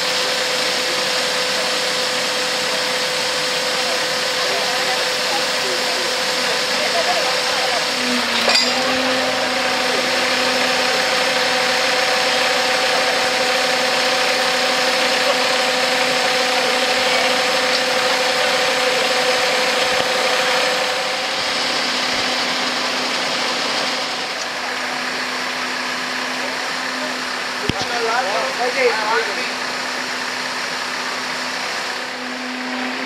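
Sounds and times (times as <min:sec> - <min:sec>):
truck engine humming: 0:00.0 - 0:33.0.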